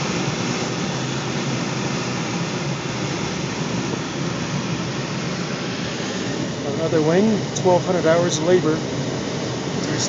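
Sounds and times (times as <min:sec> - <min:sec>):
air rushing over glider: 0:00.0 - 0:10.0.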